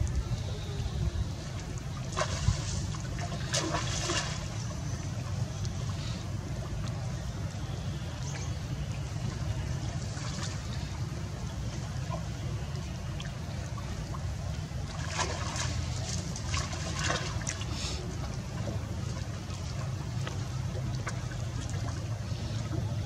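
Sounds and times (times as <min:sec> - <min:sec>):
steady low rumble: 0:00.0 - 0:23.0
water splashing and trickling: 0:00.0 - 0:23.0.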